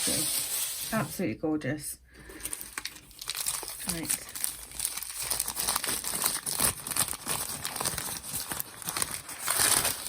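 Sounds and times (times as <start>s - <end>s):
packaging crinkling and rustling: 0.0s - 1.2s, 2.2s - 10.0s.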